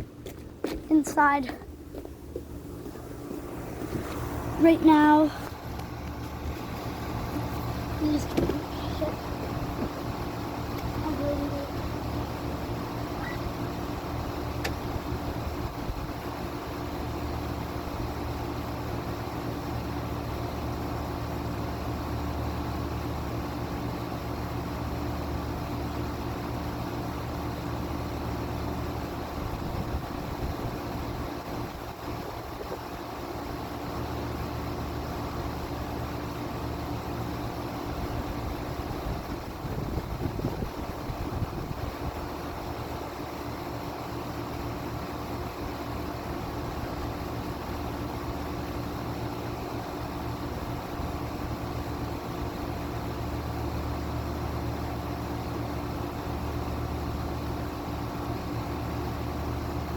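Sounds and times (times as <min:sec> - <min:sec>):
fan air rushing: 0:00.0 - 0:24.7, 0:25.4 - 0:59.9
air conditioner compressor hum: 0:00.0 - 0:59.9.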